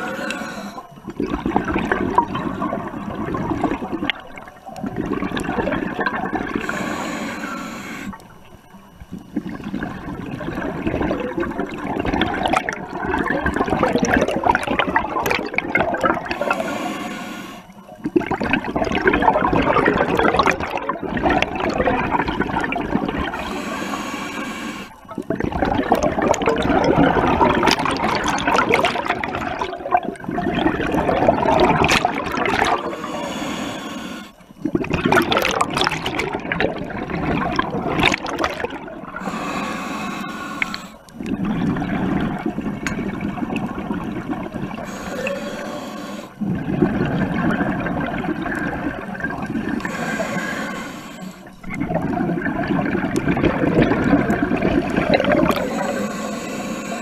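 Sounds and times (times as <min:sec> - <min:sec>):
scuba regulator exhaust bubbling: 0:00.0 - 0:57.0.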